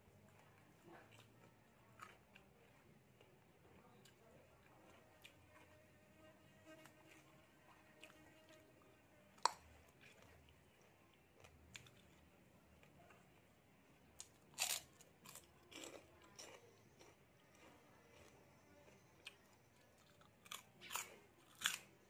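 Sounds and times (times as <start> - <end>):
crunchy chewing: 0.2 - 22.0.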